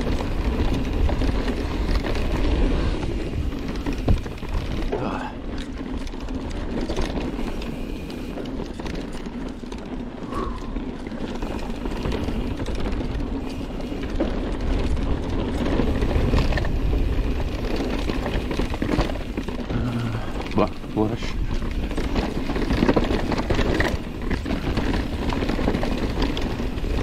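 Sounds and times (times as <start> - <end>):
bike chain and frame clattering: 0.0 - 27.0
knobby tyres on dirt: 0.0 - 27.0.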